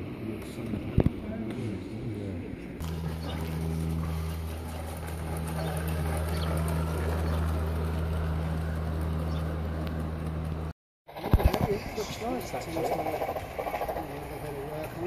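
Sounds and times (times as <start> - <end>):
wheels rumbling and clicking over rails: 0.0 - 15.0
model train hum: 2.8 - 15.0.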